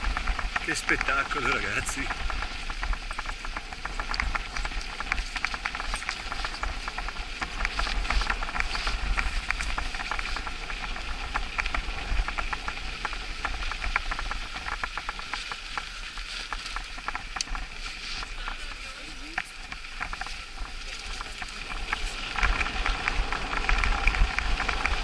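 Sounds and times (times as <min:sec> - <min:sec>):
bike tyres crunching snow: 0:00.0 - 0:25.0
steady low rumble: 0:00.0 - 0:25.0.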